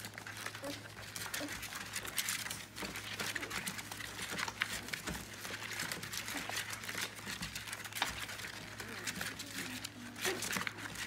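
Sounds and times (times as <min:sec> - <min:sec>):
paws shuffling on plastic: 0:00.0 - 0:11.0
puppies suckling and smacking: 0:00.0 - 0:11.0.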